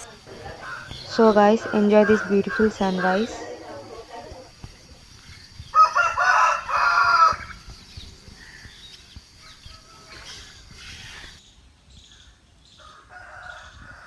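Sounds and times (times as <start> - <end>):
rooster crowing: 0.0 - 11.4, 12.8 - 14.0.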